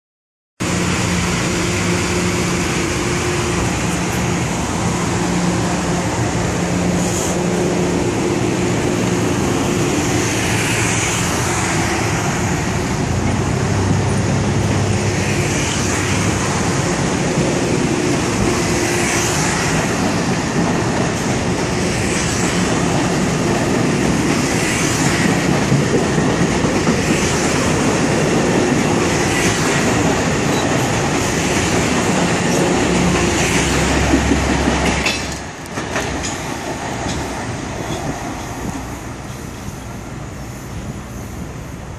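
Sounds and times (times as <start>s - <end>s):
train wheels rumbling on rail: 0.6s - 41.9s
train cars clattering: 1.8s - 40.0s.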